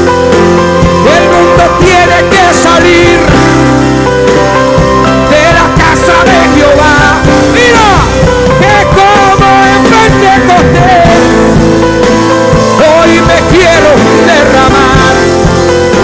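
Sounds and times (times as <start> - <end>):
person singing lead vocal: 0.0 - 16.0
worship band playing rock song: 0.0 - 16.0.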